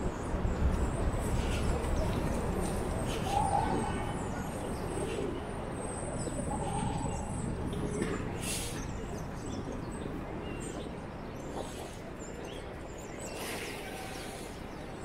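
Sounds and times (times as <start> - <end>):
traffic: 0.0 - 15.0.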